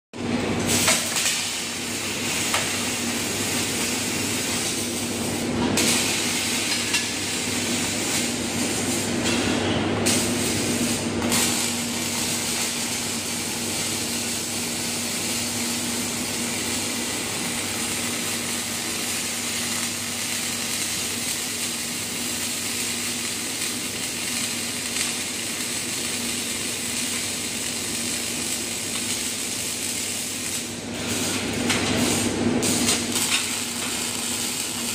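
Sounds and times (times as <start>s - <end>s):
welding arc hissing and crackling: 0.2s - 34.9s.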